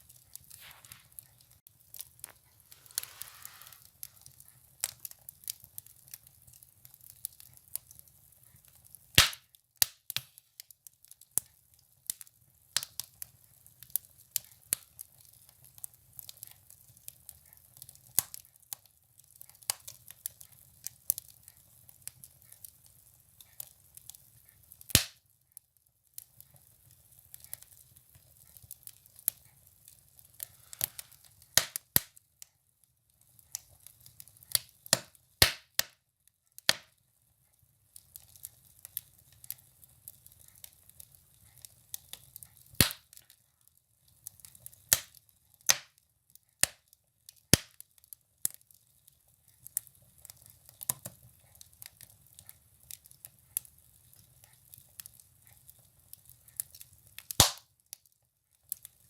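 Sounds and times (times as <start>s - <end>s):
firewood crackling and popping: 0.0s - 59.0s.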